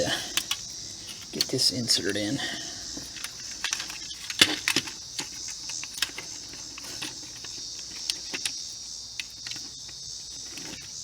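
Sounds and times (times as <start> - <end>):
plastic switch parts clicking: 0.0 - 11.0.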